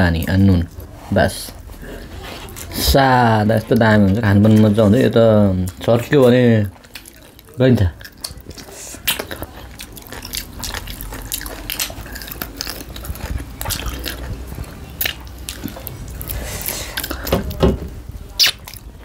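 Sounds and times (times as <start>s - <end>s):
wet chewing and lip-smacking: 0.0s - 17.4s, 18.1s - 19.0s.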